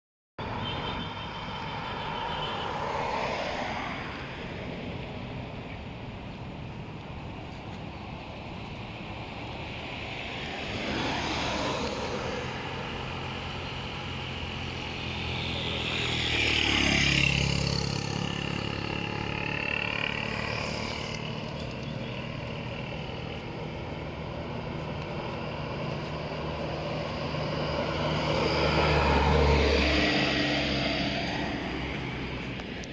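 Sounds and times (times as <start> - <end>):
vehicles driving past: 0.4 - 32.9.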